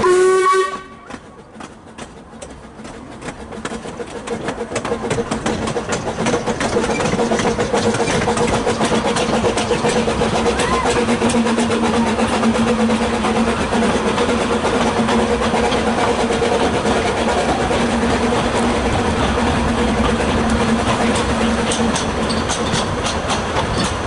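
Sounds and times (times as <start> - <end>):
wheels clicking and rattling: 0.9 - 24.0.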